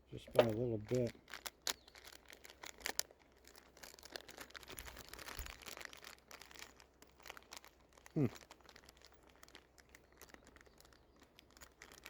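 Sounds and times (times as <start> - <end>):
packaging crinkling: 0.3 - 12.0.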